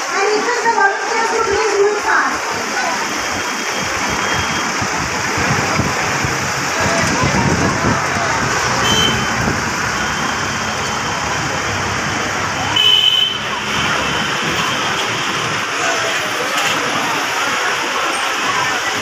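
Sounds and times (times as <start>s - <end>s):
crowd din: 0.0s - 19.0s.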